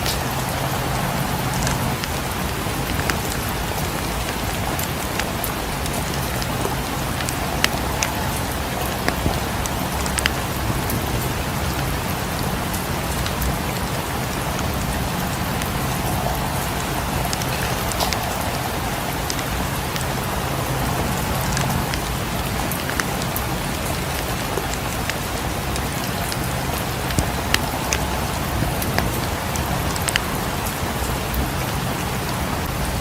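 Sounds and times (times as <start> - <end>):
wood fire crackling and popping: 0.0 - 31.3
steady rain falling: 0.0 - 33.0.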